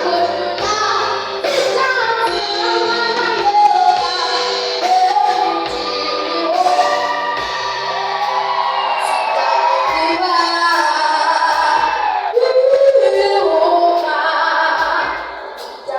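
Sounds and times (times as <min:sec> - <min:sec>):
voices singing with accompaniment: 0:00.0 - 0:15.9.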